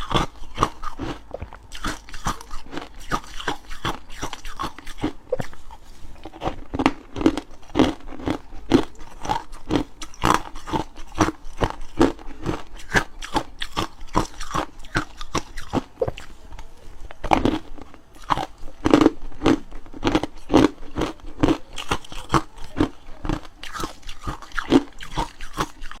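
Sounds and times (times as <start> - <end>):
ice cubes crunched by chewing: 0.0 - 16.3, 17.2 - 26.0.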